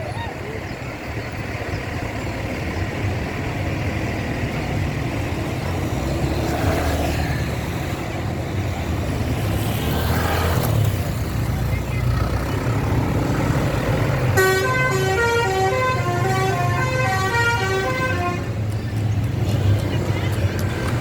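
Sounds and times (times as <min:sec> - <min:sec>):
bus engine rumbling: 0:00.0 - 0:21.0
tyre and traffic noise: 0:00.0 - 0:21.0.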